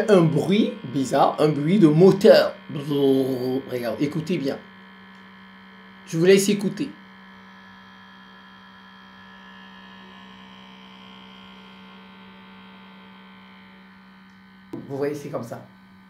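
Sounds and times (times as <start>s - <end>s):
faint high whine: 0.0s - 16.0s
laptop mechanical hum: 0.0s - 16.0s.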